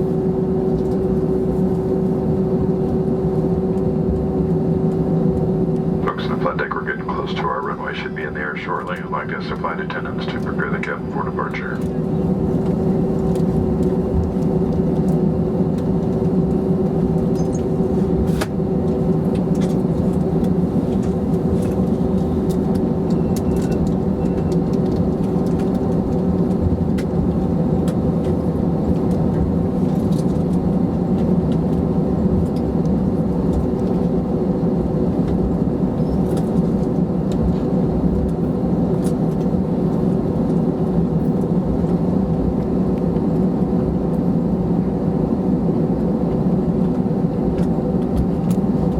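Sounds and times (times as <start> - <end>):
airplane cabin engine hum: 0.0 - 48.9.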